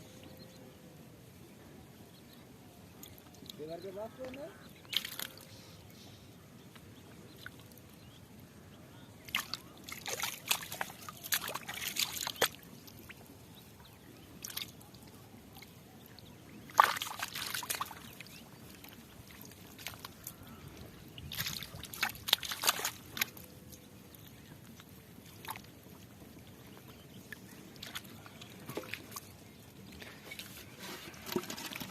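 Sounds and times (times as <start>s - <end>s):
muddy water splashing: 2.9s - 5.5s, 7.3s - 31.9s.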